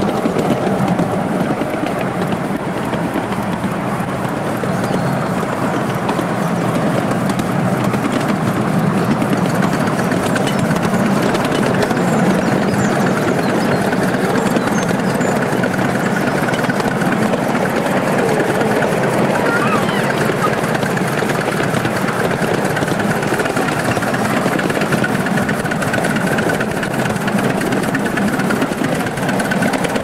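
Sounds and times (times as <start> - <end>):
train wheels clattering on rail: 0.0 - 30.0.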